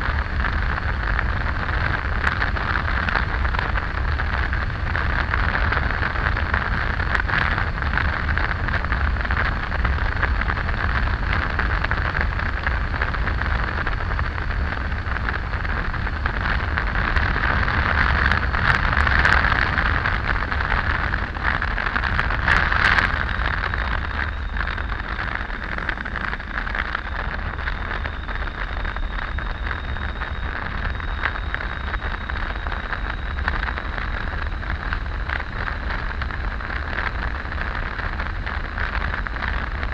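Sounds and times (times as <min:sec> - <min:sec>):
low rumble: 0:00.0 - 0:39.9
motorcycle road noise: 0:00.0 - 0:39.9
wind rush: 0:00.0 - 0:39.9.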